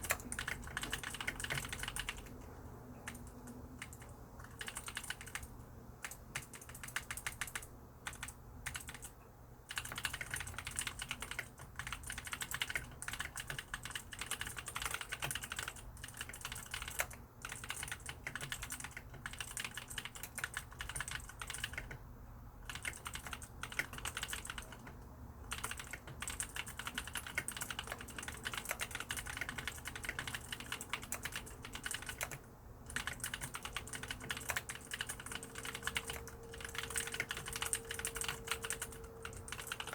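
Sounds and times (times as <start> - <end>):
clicky keyboard typing: 0.0 - 22.0, 22.6 - 39.9.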